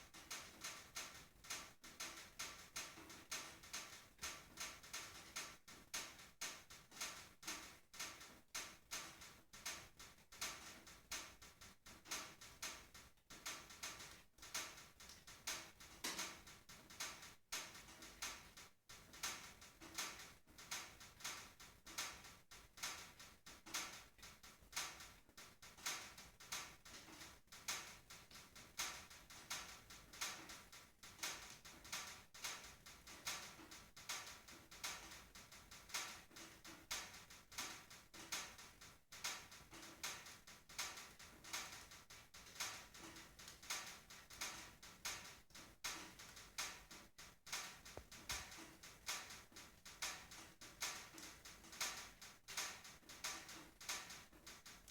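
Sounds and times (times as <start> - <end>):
firewood crackling in a stove: 0.0 - 54.9.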